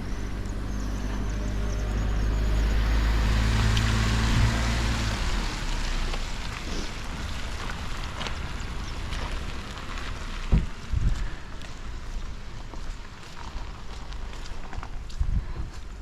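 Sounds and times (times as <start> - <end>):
outdoor rush: 0.0 - 16.0
road and tyre noise: 0.0 - 16.0
vehicle engine humming: 0.0 - 16.0.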